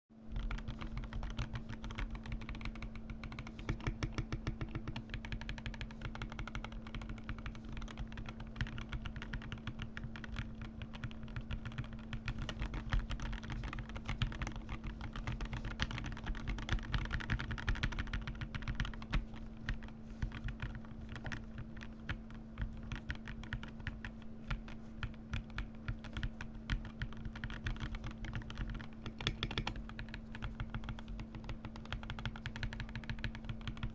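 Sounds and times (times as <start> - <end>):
fast keyboard typing: 0.3 - 33.9.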